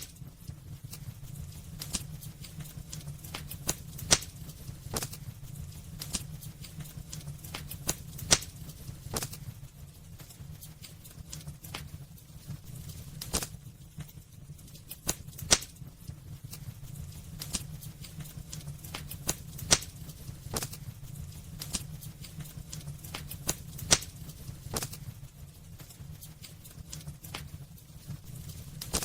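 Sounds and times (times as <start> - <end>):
crackles and pops of burning logs: 0.0 - 29.0
low fire rumble: 0.0 - 29.0.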